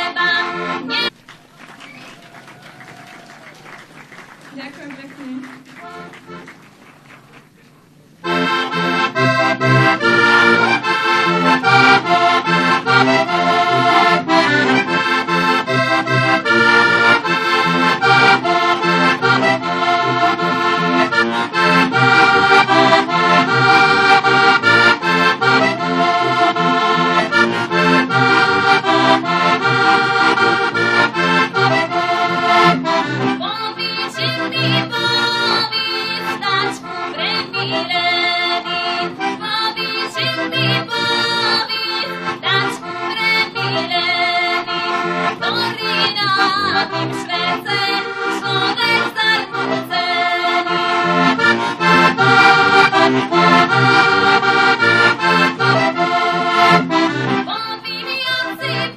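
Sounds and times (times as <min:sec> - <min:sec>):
button accordion playing folk tune: 0:00.0 - 0:02.5, 0:03.5 - 0:58.9.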